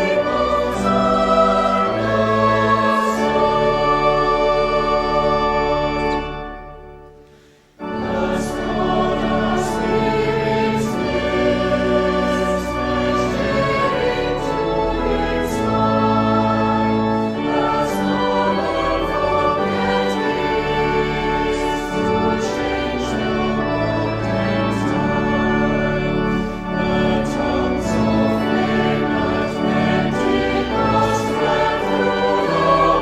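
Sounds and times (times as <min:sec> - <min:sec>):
choir singing: 0:00.0 - 0:33.0.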